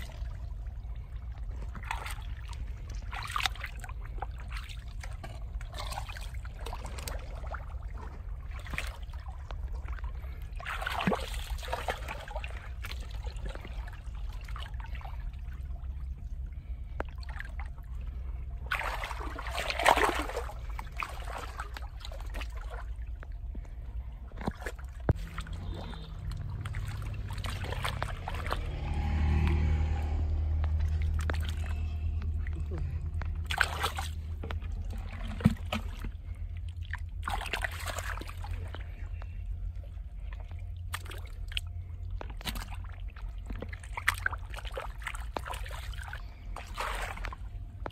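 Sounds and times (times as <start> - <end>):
water trickling: 0.0 - 39.4
hands sloshing through muddy water: 0.0 - 47.9
low rumble: 0.0 - 47.9
water splashing: 0.0 - 47.9.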